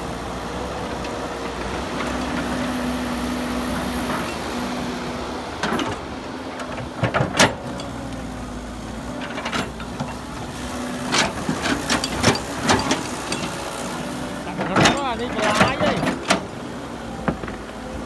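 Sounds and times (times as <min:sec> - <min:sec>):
excavator diesel engine: 0:00.0 - 0:18.0.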